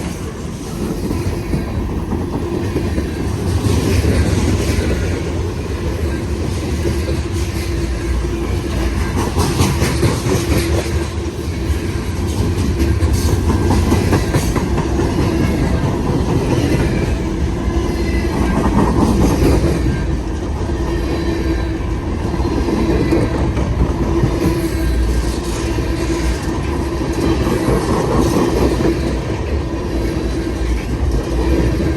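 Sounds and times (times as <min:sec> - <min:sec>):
freight train rumbling: 0:00.0 - 0:31.9.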